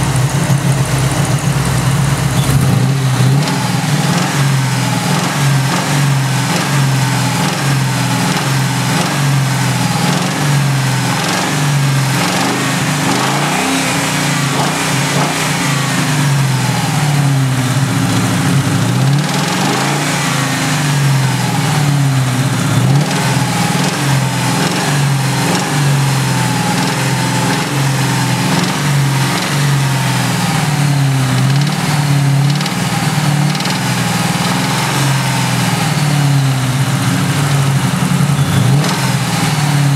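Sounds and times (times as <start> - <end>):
car engine idling: 0.0 - 39.9
engine tapping noise: 0.0 - 39.9.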